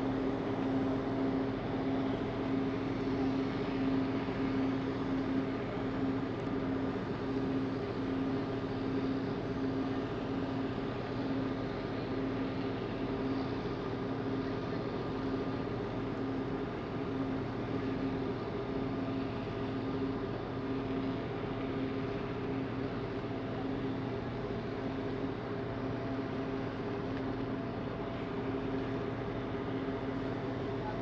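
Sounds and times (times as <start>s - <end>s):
ferry engines droning: 0.0s - 31.0s.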